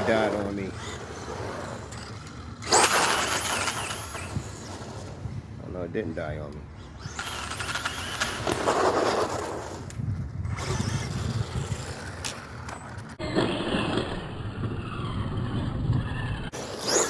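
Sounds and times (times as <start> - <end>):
rc car tyres scrabbling: 0.0 - 5.3, 6.8 - 17.0.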